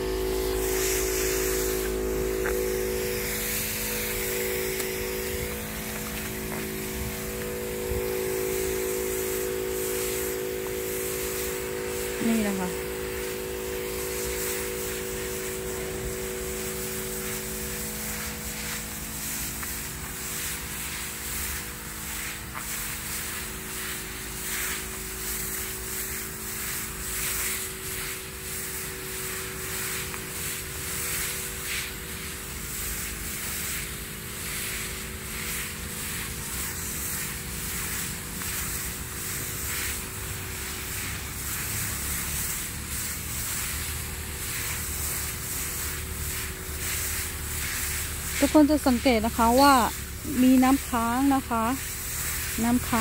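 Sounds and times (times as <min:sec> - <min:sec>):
spray gun hissing: 0:00.0 - 0:53.0
sprayer motor hum: 0:00.0 - 0:53.0.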